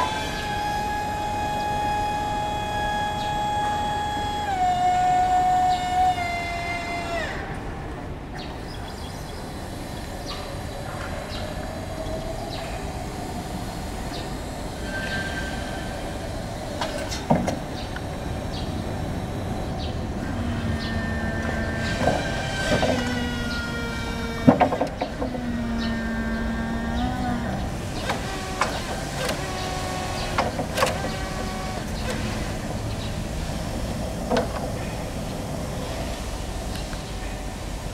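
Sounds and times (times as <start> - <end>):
electric forklift motor whine: 0.0 - 37.9.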